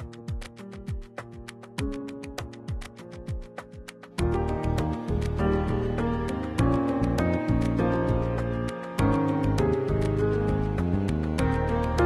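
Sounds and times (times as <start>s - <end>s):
background music with light beat: 0.0s - 12.0s.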